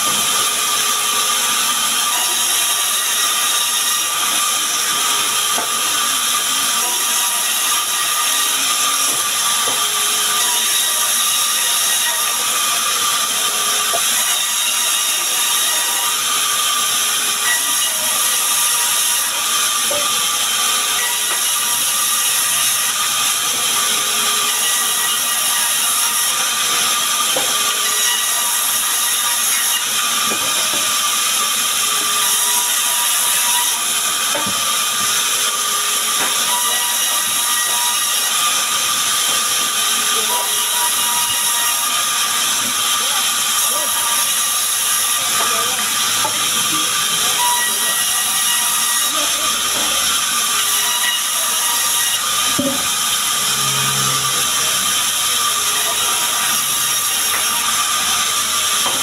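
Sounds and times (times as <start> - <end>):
band saw cutting logs: 0.0 - 59.0.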